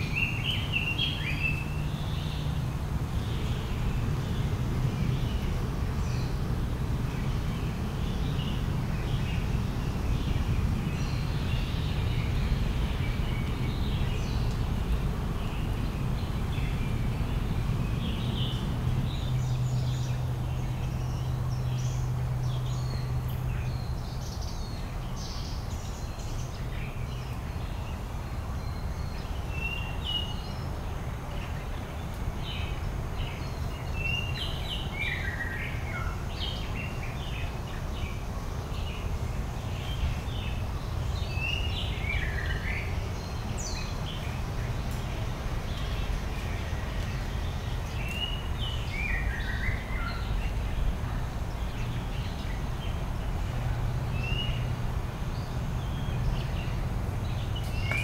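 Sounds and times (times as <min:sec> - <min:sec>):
low outdoor rumble: 0:00.0 - 0:58.0
small birds chirping: 0:00.0 - 0:58.0.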